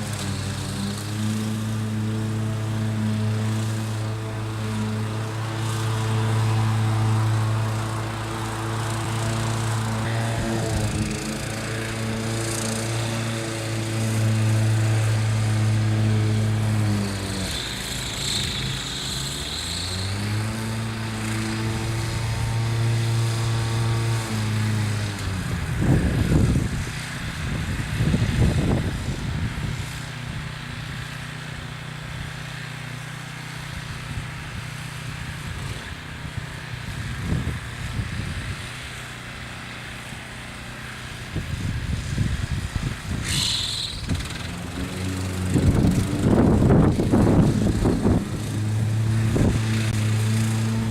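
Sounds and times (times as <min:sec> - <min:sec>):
loud rough mower bursts: 0:00.0 - 0:50.9
ride-on mower engine: 0:00.0 - 0:50.9.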